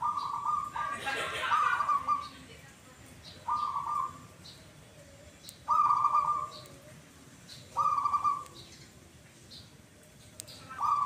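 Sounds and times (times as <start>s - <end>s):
doves cooing: 0.0s - 2.6s, 3.2s - 11.0s.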